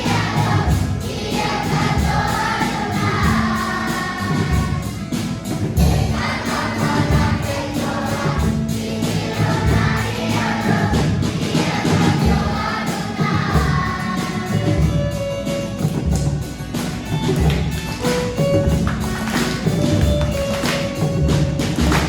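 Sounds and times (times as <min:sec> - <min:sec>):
choir singing with accompaniment: 0:00.0 - 0:22.0.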